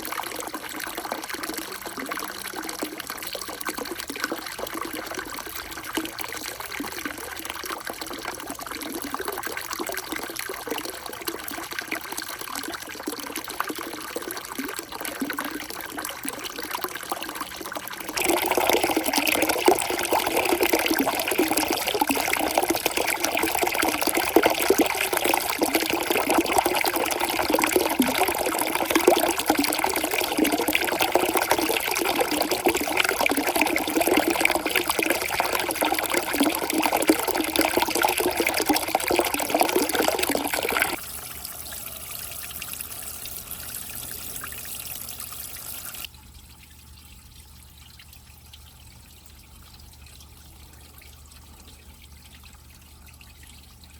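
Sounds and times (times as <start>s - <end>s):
water flowing and splashing: 0.0s - 46.1s.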